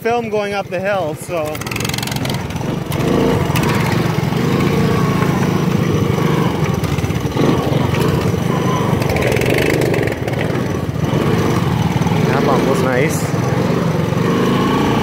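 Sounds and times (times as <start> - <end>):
go-kart engine: 0.0 - 15.0
three-wheeler engine running: 0.0 - 15.0.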